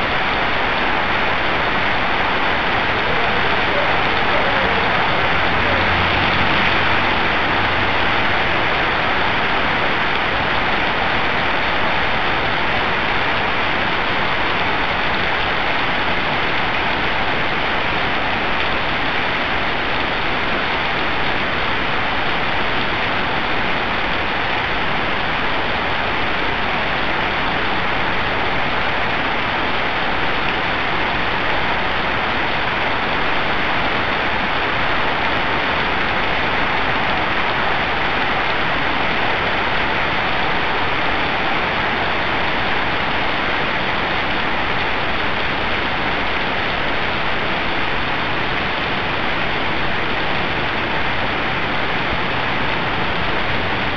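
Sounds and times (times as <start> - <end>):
heavy rain on pavement: 0.0 - 53.9.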